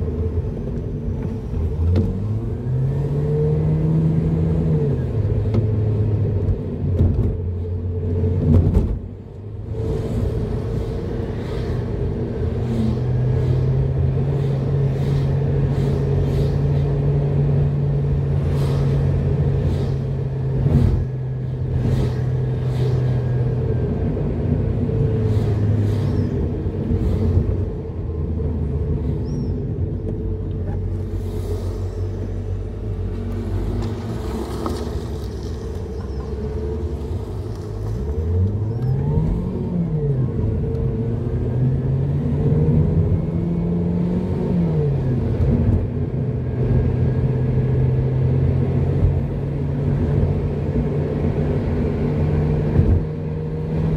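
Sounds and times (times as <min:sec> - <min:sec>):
tyre and road noise: 0:00.0 - 0:53.9.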